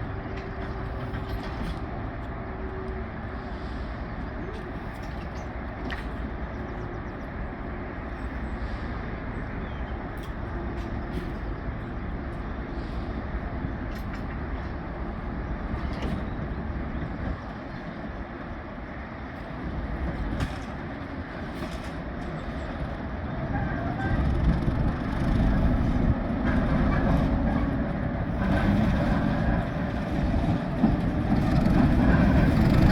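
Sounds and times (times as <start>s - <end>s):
train rumbling: 0.0s - 32.9s.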